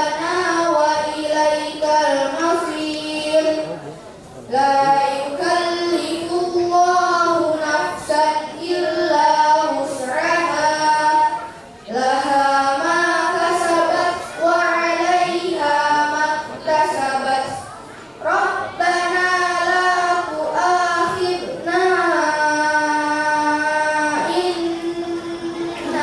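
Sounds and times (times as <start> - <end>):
girl chanting: 0.0 - 3.7, 4.5 - 26.0.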